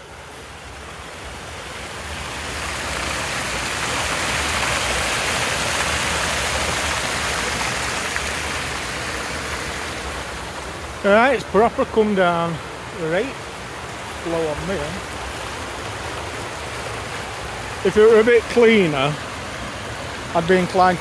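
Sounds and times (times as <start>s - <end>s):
floodwater rushing over stone: 0.0s - 21.0s.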